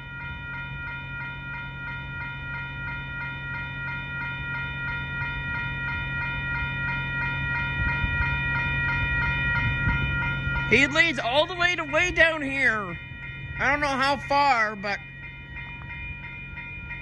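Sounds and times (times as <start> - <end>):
crossing warning bells ringing: 0.0 - 17.0.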